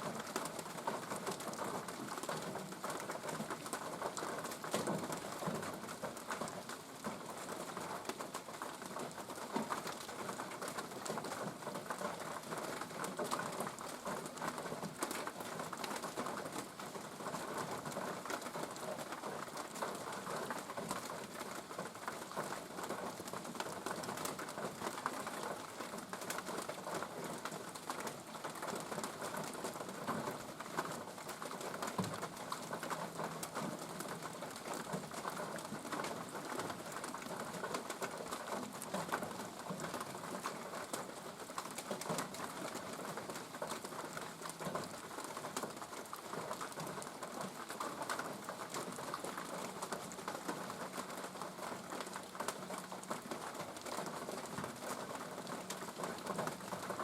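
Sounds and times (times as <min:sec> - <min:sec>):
rain pattering and dripping: 0:00.0 - 0:57.0.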